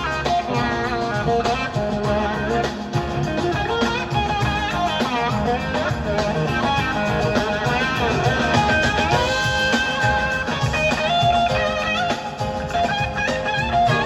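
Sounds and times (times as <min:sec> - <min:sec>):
lead guitar bending notes: 0:00.0 - 0:14.0
live band playing: 0:00.0 - 0:14.0.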